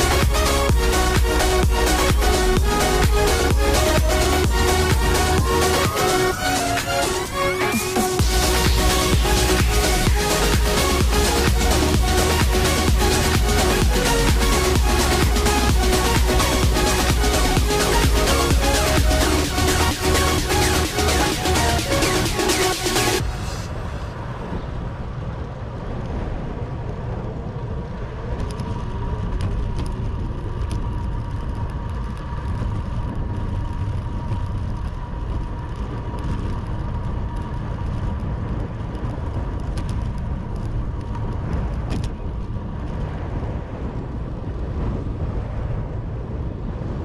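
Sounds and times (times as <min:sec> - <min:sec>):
wind and road noise: 0:00.0 - 0:47.0.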